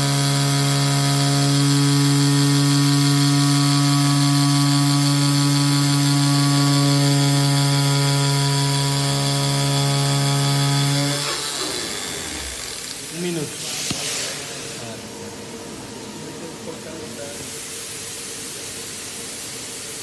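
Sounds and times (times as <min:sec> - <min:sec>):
cutting machine humming: 0:00.0 - 0:17.4.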